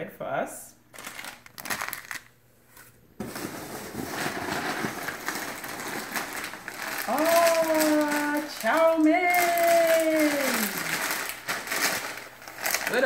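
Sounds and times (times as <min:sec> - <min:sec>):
foam packing peanuts rustling: 0:00.9 - 0:13.0
plastic bag crinkling: 0:00.9 - 0:13.0.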